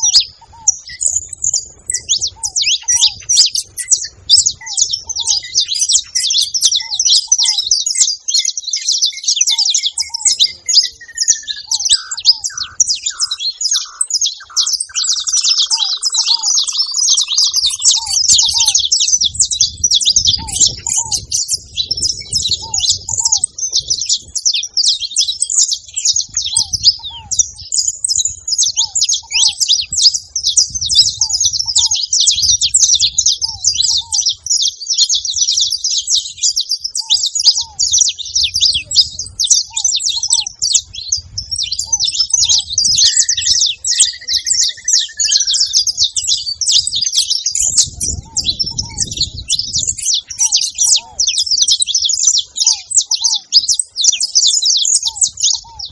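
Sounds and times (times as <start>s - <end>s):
finches chirping and singing: 0.0s - 55.9s.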